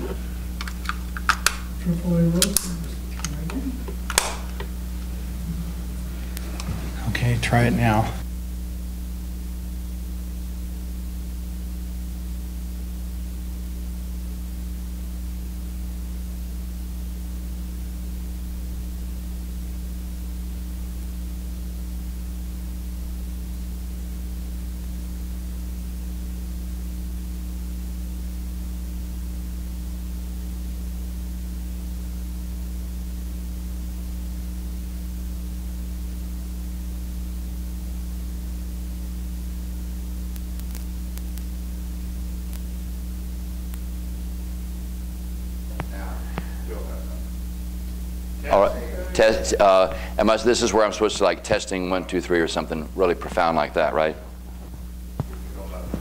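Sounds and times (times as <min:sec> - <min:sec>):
electrical mains hum: 0:00.0 - 0:56.0
microphone hiss: 0:00.0 - 0:56.0.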